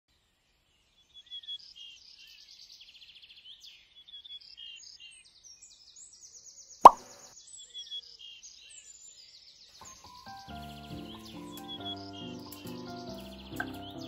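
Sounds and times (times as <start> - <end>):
birds chirping and trilling: 0.5 - 14.0.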